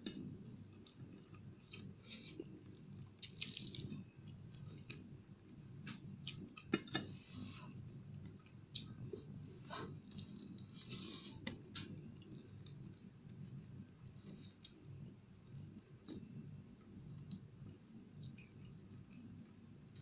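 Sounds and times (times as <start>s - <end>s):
faint chewing of fried fish: 0.0s - 20.0s
low steady hum: 0.0s - 20.0s.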